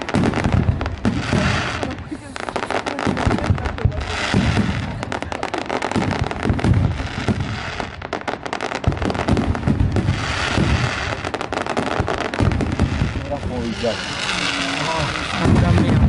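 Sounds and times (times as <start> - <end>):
firework shells booming: 0.0 - 16.0
sharp crackling pops: 0.0 - 16.0.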